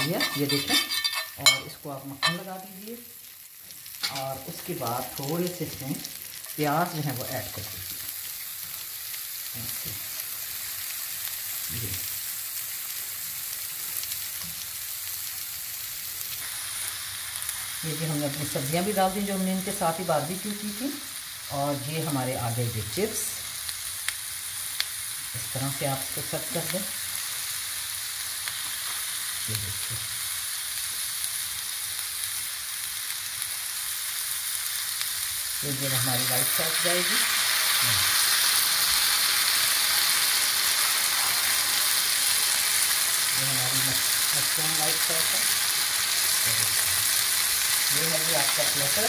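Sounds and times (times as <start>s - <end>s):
onions sizzling on a hot plate: 0.0s - 49.0s.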